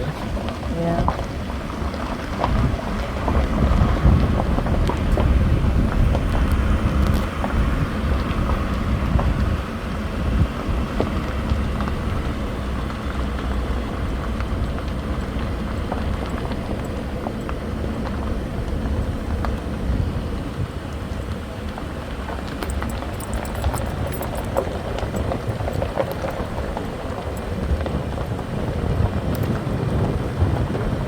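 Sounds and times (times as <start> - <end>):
car rumbling on rough road: 0.0 - 31.0
gravel ticking under tyres: 0.0 - 31.0.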